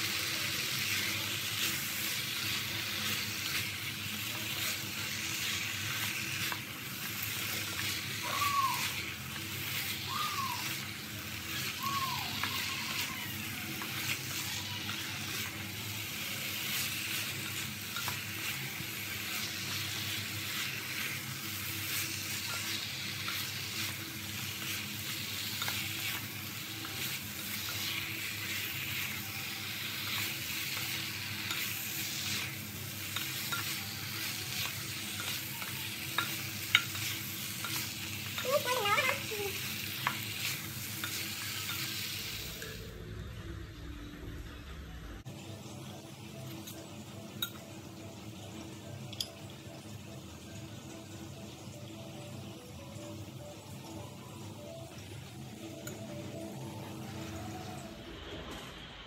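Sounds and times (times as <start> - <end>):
frying sizzle: 0.0 - 59.0.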